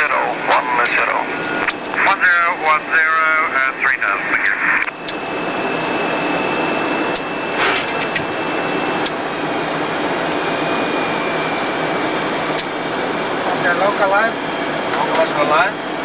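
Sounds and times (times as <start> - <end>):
aircraft engine with high whine: 0.0 - 16.0.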